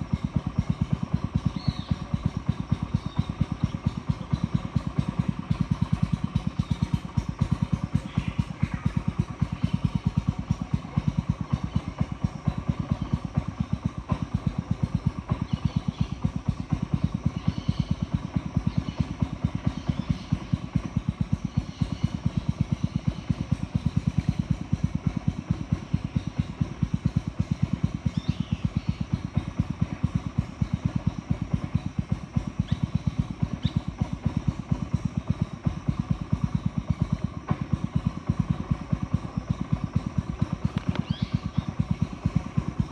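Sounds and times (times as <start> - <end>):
boat motor chugging: 0.0 - 42.9.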